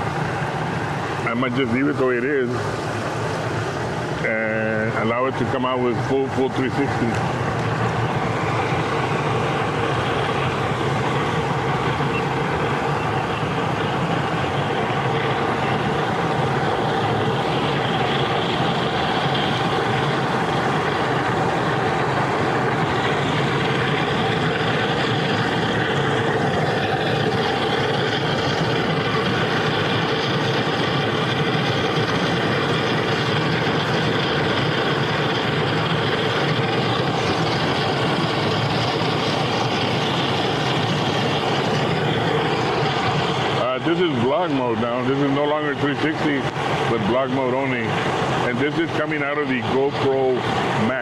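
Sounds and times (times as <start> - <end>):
hot tub jets bubbling: 0.0 - 51.0.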